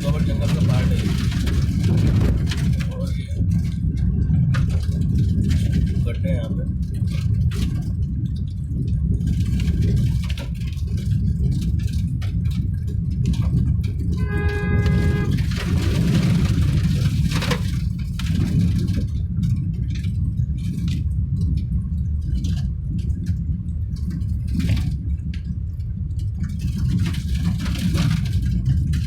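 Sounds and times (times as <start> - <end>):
vehicle driving on road: 0.0 - 29.0.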